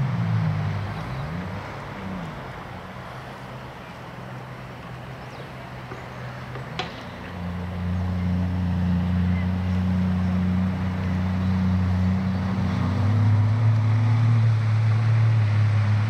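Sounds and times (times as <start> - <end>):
jet ski engine running: 0.0 - 16.0.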